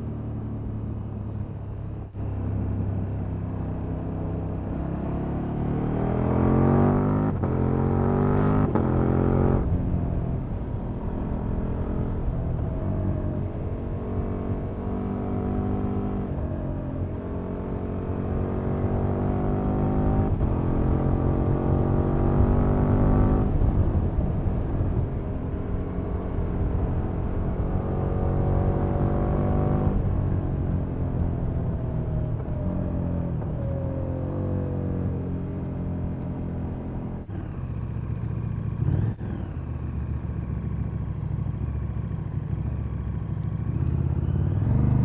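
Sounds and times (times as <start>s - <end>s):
motorcycle engine accelerating: 0.0s - 45.0s
wind and road noise: 0.0s - 45.0s.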